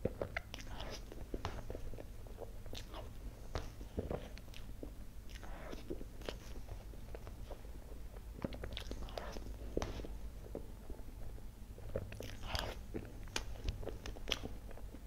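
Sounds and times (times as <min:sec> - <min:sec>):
chewing and mouth sounds: 0:00.0 - 0:15.0.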